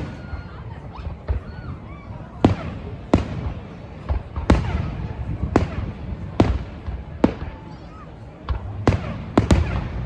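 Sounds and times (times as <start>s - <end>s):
fireworks booming: 0.0s - 10.0s.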